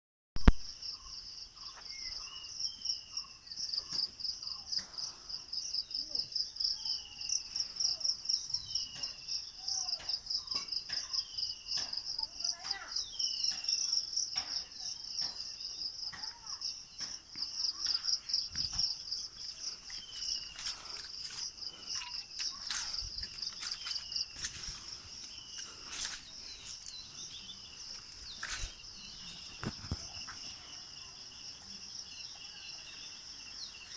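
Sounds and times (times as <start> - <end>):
pulsing insect chorus: 0.7 - 33.9.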